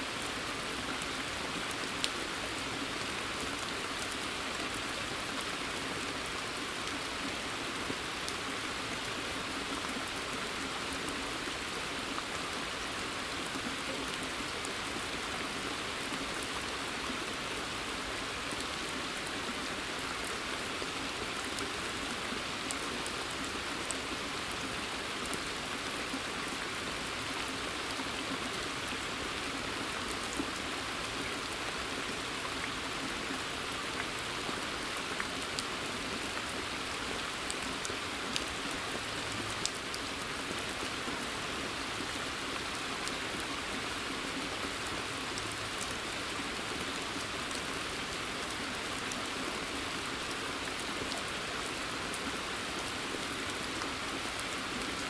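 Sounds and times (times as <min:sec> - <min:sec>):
rain falling on a pond: 0:00.0 - 0:55.0.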